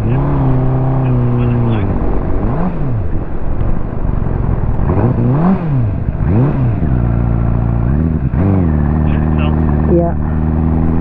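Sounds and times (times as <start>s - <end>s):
motorcycle engine revving and idling: 0.0s - 11.0s.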